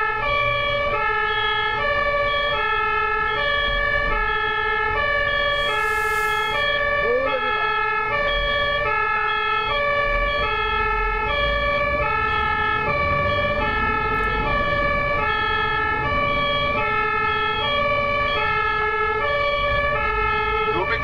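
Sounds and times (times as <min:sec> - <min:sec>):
traffic rumble: 0:00.0 - 0:21.0
two-tone ambulance siren: 0:00.0 - 0:21.0.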